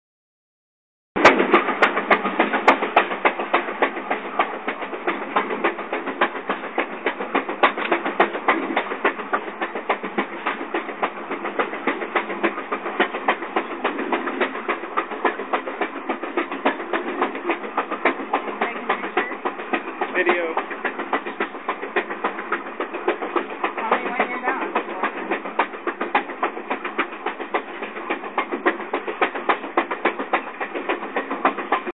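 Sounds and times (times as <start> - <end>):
steady rushing noise: 1.2 - 31.9
train rumble: 1.2 - 31.9
train wheels clattering on rails: 1.2 - 31.9.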